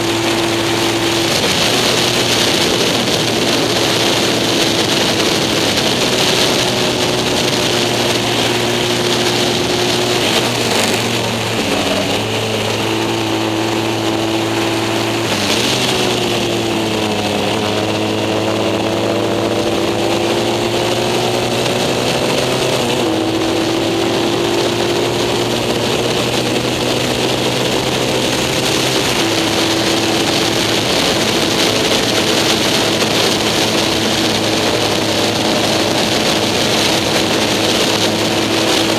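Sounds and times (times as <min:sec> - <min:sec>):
racing engine running hard: 0:00.0 - 0:38.9
wind rush over microphone: 0:00.0 - 0:38.9.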